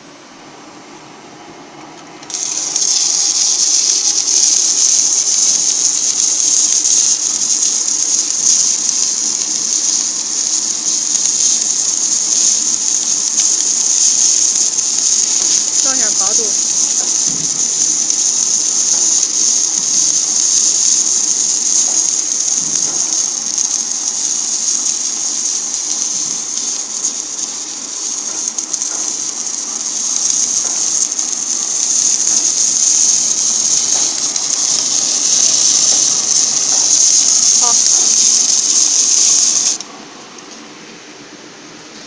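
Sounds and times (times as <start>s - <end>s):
welding arc hissing: 2.2s - 39.9s.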